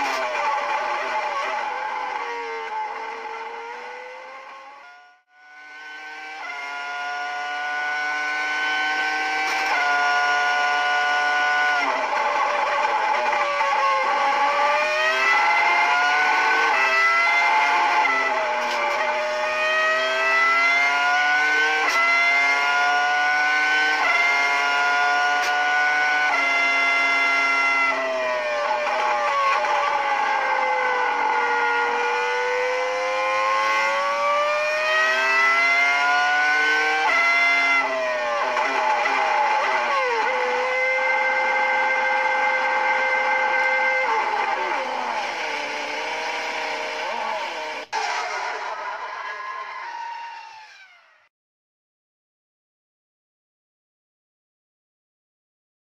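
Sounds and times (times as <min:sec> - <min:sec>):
racing car engine accelerating: 0:00.0 - 0:51.3.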